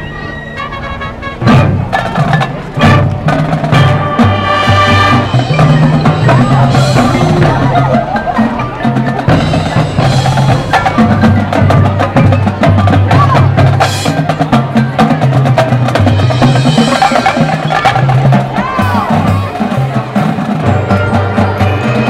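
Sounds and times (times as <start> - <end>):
drums and percussion: 0.0 - 22.0
marching band playing: 0.0 - 22.0.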